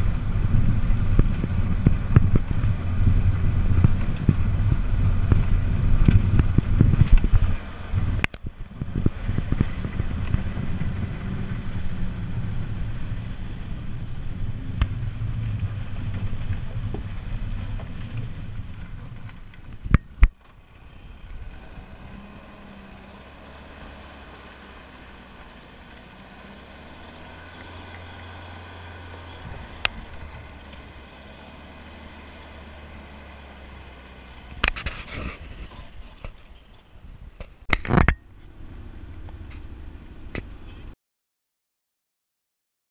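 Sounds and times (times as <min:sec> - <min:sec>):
truck engine idling: 0:00.0 - 0:34.7
truck engine driving: 0:00.0 - 0:41.0.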